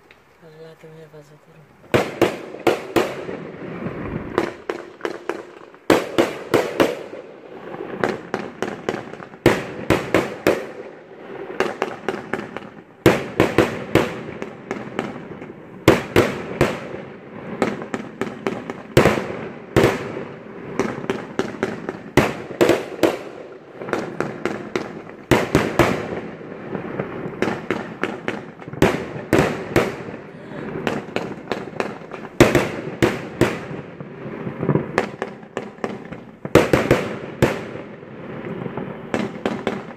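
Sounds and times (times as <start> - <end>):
fireworks crackling: 0.0 - 39.9
fireworks bangs: 0.4 - 39.9.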